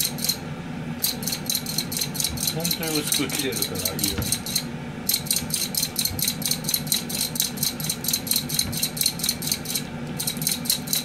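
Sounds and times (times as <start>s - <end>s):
slicer shaving cucumber: 1.0s - 11.0s.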